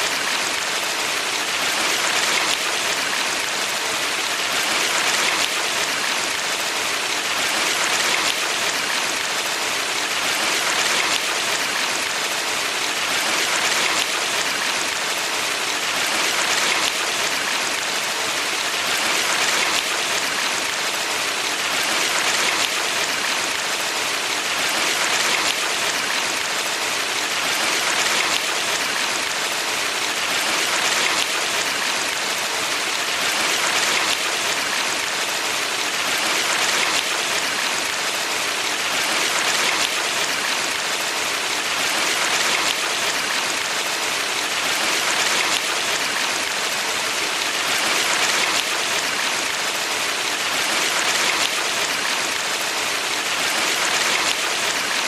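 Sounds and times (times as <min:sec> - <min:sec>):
stream rushing and splashing: 0:00.0 - 0:55.0.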